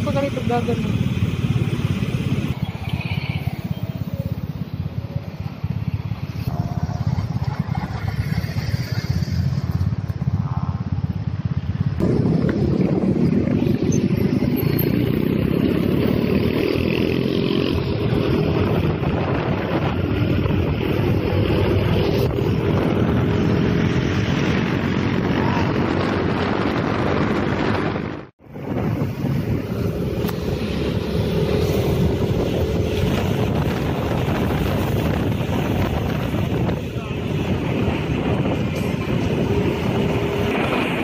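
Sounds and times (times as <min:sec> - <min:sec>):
motorcycle engine: 0:00.0 - 0:41.0
wind rumble on microphone: 0:00.0 - 0:41.0.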